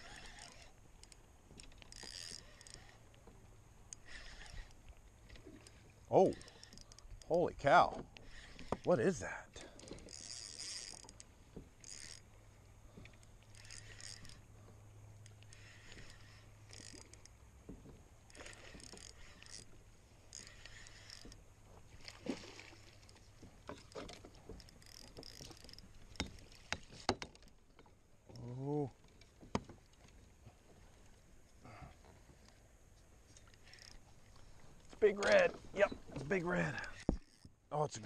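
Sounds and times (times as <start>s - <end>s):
fishing gear knocks and clicks: 0.0s - 30.3s, 33.3s - 37.6s
water splashing against kayak: 0.0s - 37.6s.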